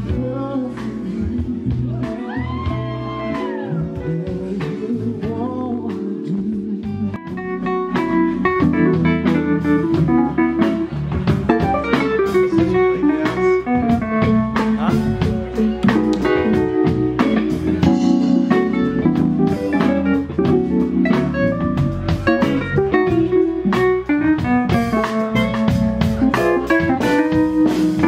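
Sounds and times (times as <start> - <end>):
bass: 0.0 - 28.0
drums: 0.0 - 28.0
electric guitar: 0.0 - 28.0
keyboard: 0.0 - 28.0.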